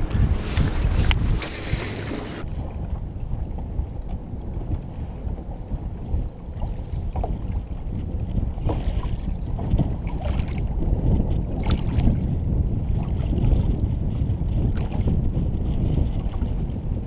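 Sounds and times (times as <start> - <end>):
water lapping against metal hull: 0.0 - 17.0
wind buffeting microphone: 0.0 - 17.0.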